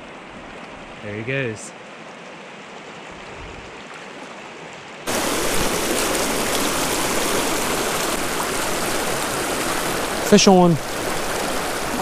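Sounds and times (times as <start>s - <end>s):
river water rushing over rocks: 1.8s - 12.0s.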